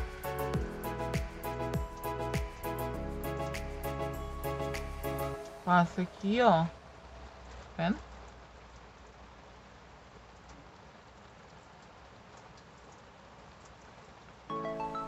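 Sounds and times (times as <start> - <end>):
faint room tone hiss: 0.0 - 15.0.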